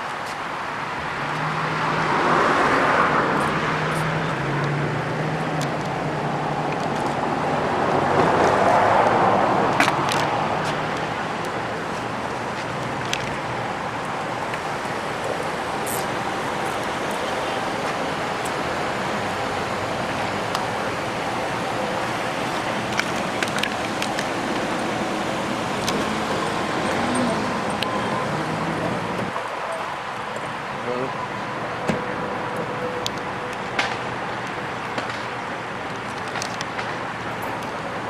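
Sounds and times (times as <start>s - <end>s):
cars passing by: 0.0s - 38.0s
steady traffic hum: 0.0s - 38.0s.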